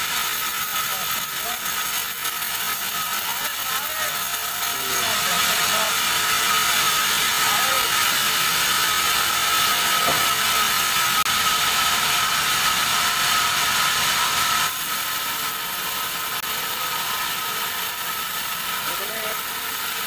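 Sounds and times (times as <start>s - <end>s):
band saw cutting a log: 0.0s - 20.0s.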